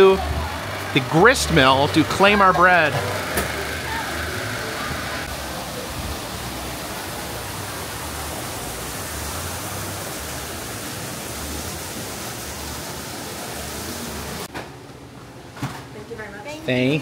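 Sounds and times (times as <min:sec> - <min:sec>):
fast water rushing: 0:00.0 - 0:14.5.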